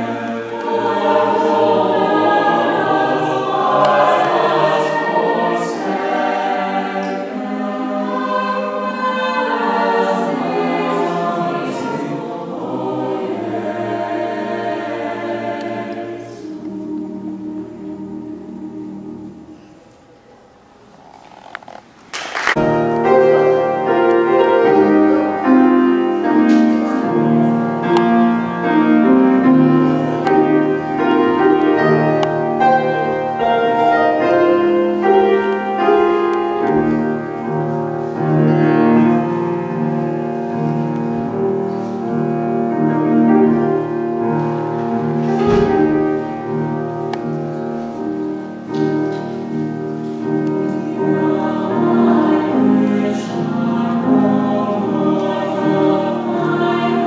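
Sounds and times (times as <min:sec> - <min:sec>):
slow classical piano piece: 0:00.0 - 0:57.0.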